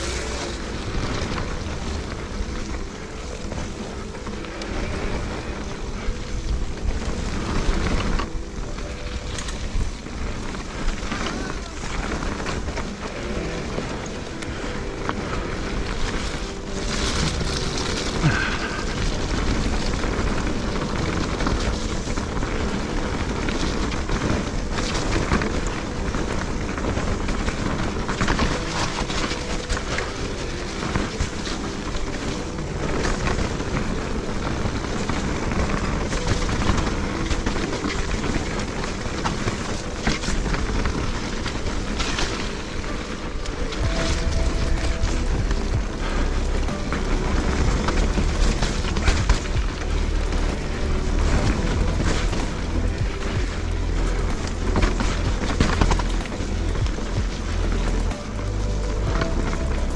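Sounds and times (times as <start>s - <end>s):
bike tyres on dirt trail: 0.0s - 59.9s.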